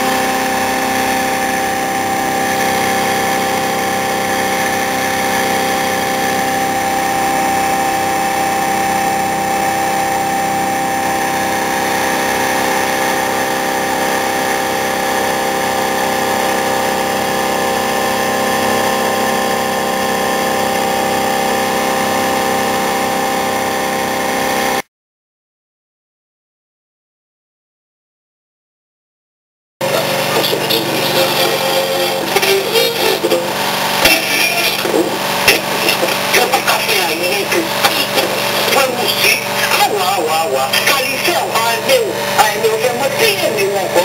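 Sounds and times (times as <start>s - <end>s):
motor humming with whine: 0.0s - 24.8s, 29.8s - 44.0s.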